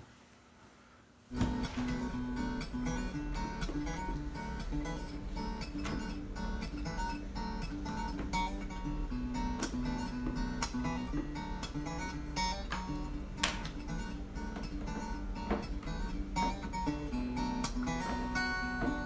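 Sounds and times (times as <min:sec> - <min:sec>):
acoustic guitar music: 0:01.3 - 0:19.0.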